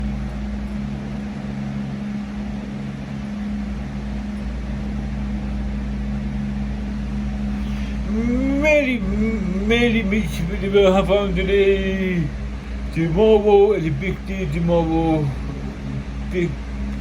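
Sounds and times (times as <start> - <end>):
mechanical hum and drone: 0.0 - 17.0.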